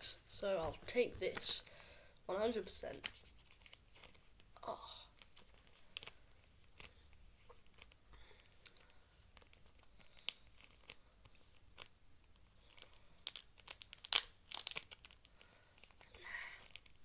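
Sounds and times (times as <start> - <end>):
cards and plastic packaging crinkling: 0.5 - 17.0.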